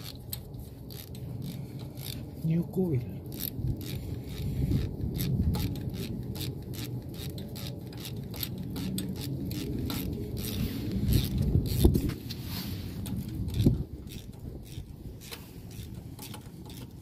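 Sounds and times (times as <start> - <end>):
ratchet wrench clicking: 0.0 - 2.3, 3.2 - 12.2, 13.0 - 17.0
steady low rumble: 0.0 - 17.0.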